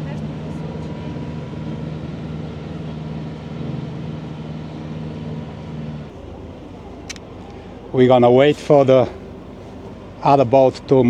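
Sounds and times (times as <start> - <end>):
diesel engine running at low revs: 0.0 - 11.0.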